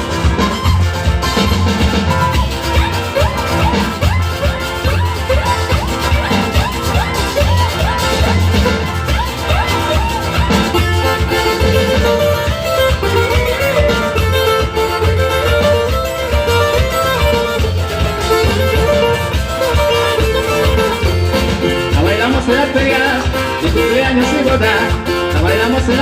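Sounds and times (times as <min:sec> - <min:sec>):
band playing instrumental music: 0:00.0 - 0:26.0.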